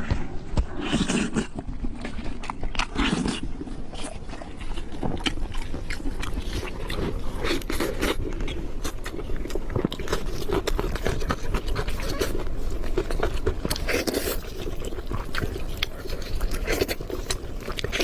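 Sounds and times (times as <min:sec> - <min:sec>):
crunchy chewing: 0:00.0 - 0:18.0.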